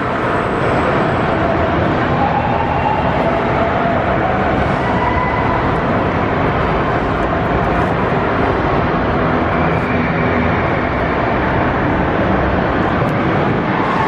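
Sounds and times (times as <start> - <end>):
roller coaster rattle and rumble: 0.0 - 14.0.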